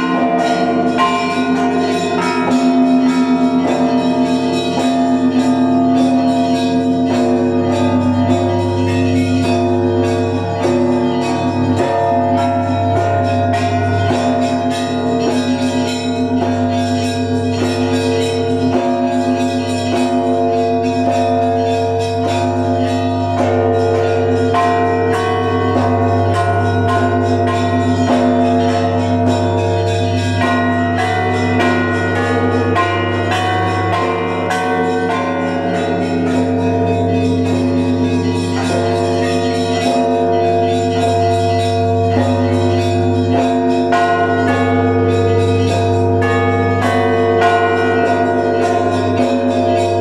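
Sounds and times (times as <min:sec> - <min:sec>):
deep bass bell: 0:00.0 - 0:50.0
larger bells ringing: 0:00.0 - 0:50.0
small treble bells striking: 0:00.0 - 0:50.0.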